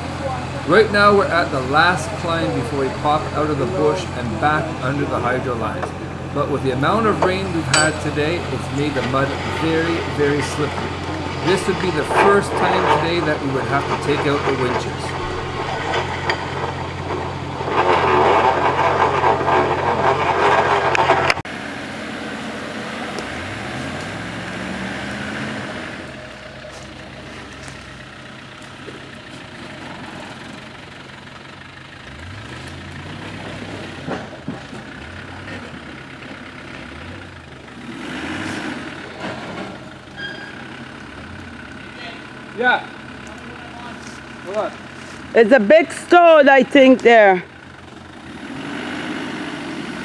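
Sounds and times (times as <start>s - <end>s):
truck engine revving: 0.0s - 50.0s
truck engine running: 0.0s - 50.0s.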